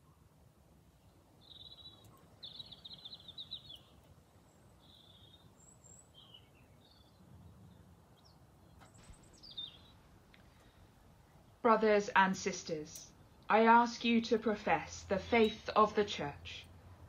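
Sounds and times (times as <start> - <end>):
faint birdsong chirps and trill: 0.0 - 17.0.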